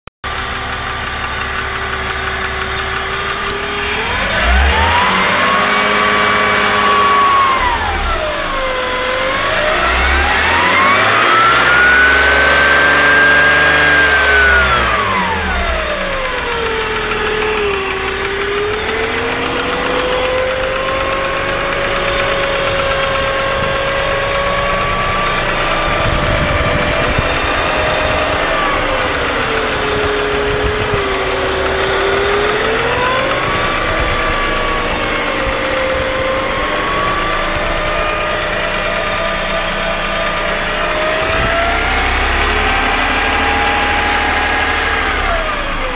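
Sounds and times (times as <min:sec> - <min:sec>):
car engine running: 0:00.2 - 0:45.9
engine whining tone: 0:00.2 - 0:45.9.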